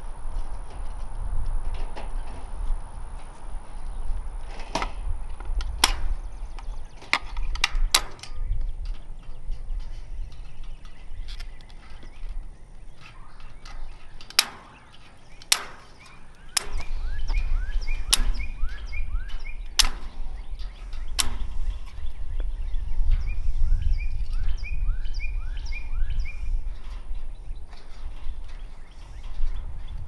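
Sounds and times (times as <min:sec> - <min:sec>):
low rumble: 0:00.0 - 0:14.2, 0:14.9 - 0:30.0
bird chirping: 0:05.1 - 0:30.0.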